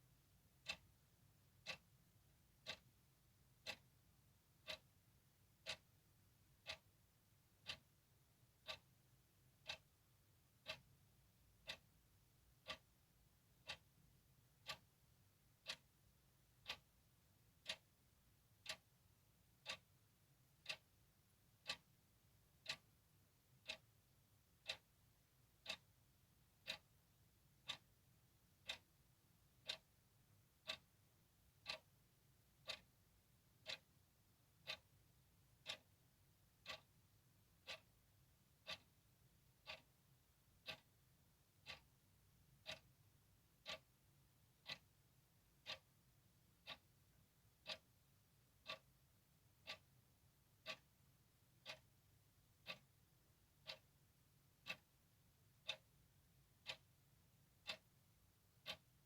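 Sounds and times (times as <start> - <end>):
clock ticking: 0.1 - 59.0.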